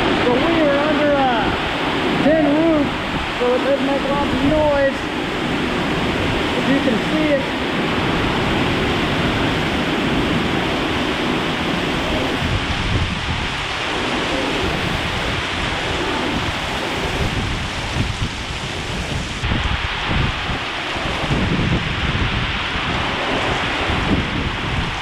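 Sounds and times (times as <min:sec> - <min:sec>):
heavy rain pouring: 0:00.0 - 0:25.0
surf rumbling: 0:00.0 - 0:25.0
wind: 0:00.0 - 0:25.0.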